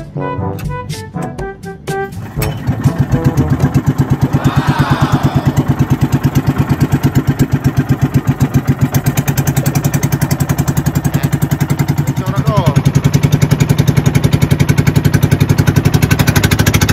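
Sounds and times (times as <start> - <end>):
small engine running steadily: 2.1 - 16.9.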